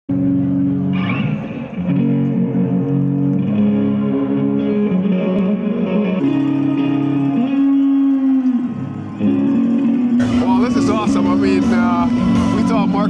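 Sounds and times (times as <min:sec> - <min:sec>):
guitar music with sustained chords: 0:00.1 - 0:13.0.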